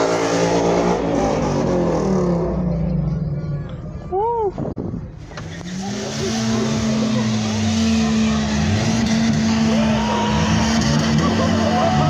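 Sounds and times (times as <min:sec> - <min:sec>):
car engine at high revs: 0:00.0 - 0:02.9, 0:05.2 - 0:12.0
voices of onlookers: 0:02.2 - 0:12.0.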